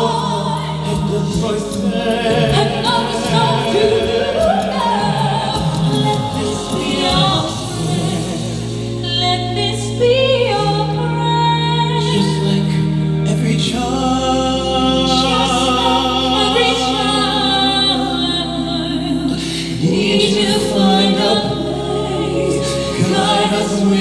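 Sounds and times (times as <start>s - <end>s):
vocal group singing close harmony: 0.0s - 24.0s.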